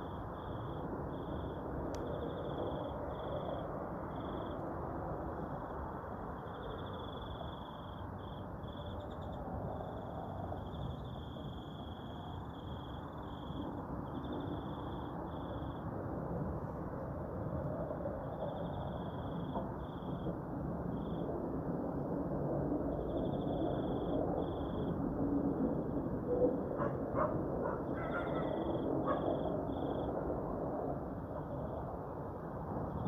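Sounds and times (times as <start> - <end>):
crickets chirping: 0.0 - 16.5, 17.1 - 21.4, 22.8 - 33.0.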